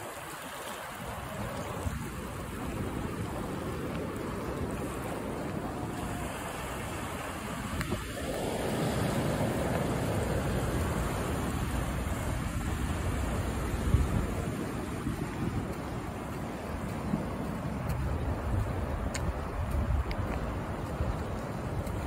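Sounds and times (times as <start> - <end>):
small waves breaking on beach: 0.0 - 22.0
wind buffeting microphone: 0.8 - 22.0.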